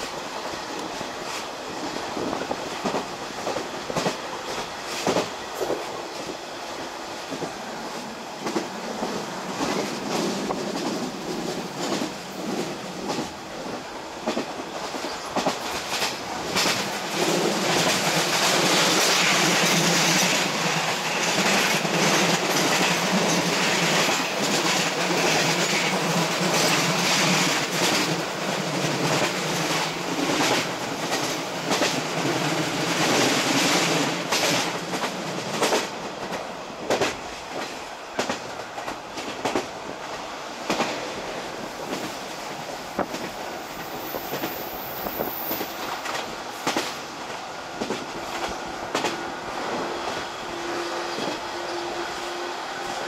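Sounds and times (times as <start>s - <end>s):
train rolling rumble: 0.0s - 53.0s
wheels clickety-clack on rail joints: 0.0s - 53.0s.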